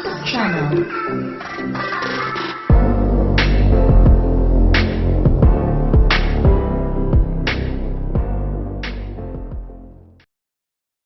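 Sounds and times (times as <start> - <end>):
background music: 0.0 - 10.2.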